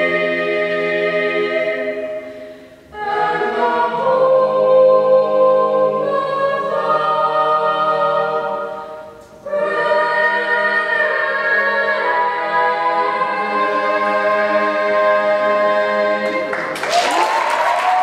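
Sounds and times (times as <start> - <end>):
group of voices singing: 0.0 - 16.8.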